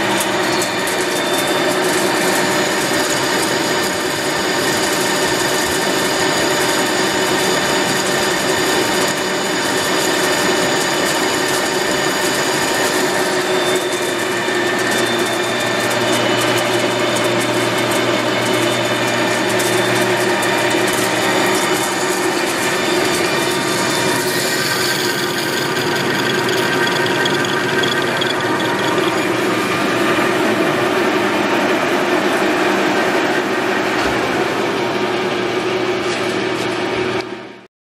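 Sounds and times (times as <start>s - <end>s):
lathe motor whining: 0.0s - 37.4s.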